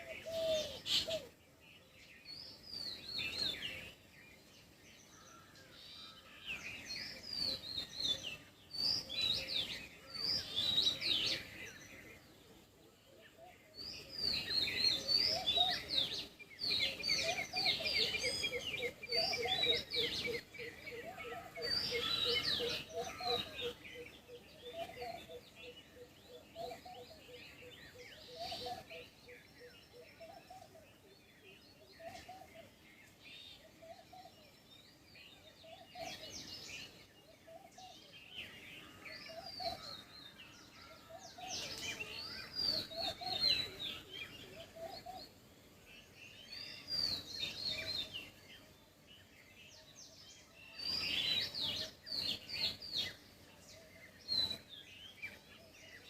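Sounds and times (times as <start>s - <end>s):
wild birds chirping: 0.0s - 56.0s.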